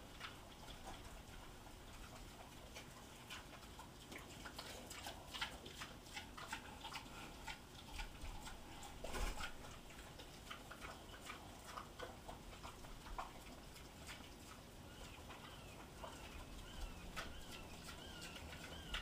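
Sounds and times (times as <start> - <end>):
pigs chewing and smacking: 0.0 - 19.0.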